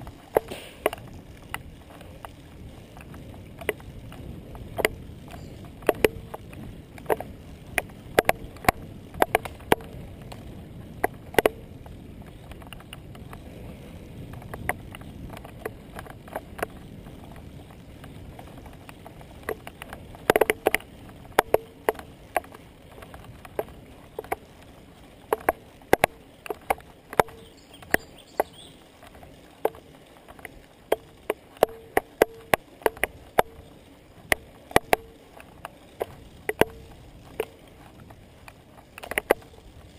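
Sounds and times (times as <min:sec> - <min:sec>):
bicycle tyres rumbling: 0:00.0 - 0:39.9
wind: 0:00.0 - 0:39.9
sharp clicks and knocks: 0:00.3 - 0:10.4, 0:11.0 - 0:13.4, 0:14.3 - 0:24.6, 0:25.2 - 0:39.9.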